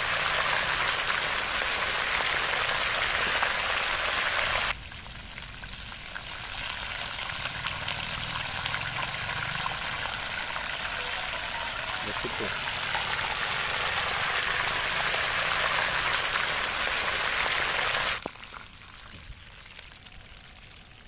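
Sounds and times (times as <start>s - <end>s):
hot oil sizzling and crackling: 0.0s - 21.0s.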